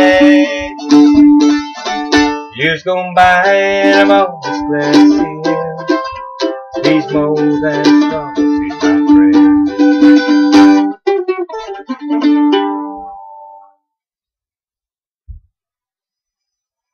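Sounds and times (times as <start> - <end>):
mandolin picking: 0.0 - 13.7.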